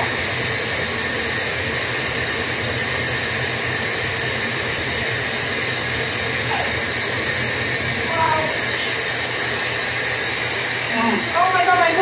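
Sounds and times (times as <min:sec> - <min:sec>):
shower water spray hissing: 0:00.0 - 0:12.0.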